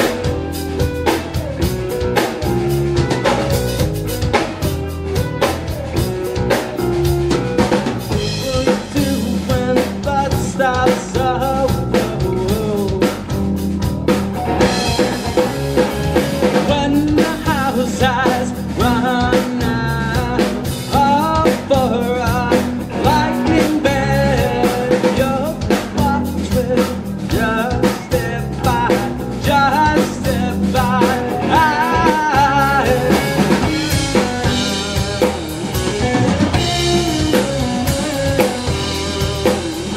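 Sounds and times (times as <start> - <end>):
live rock band playing: 0.0 - 39.9
man singing: 6.0 - 15.8, 16.4 - 39.9.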